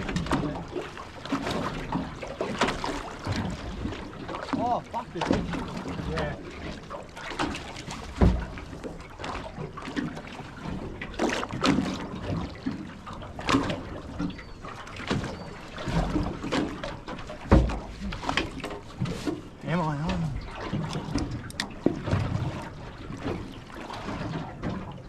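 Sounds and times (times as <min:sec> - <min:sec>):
water splashing against boat hull: 0:00.0 - 0:25.0.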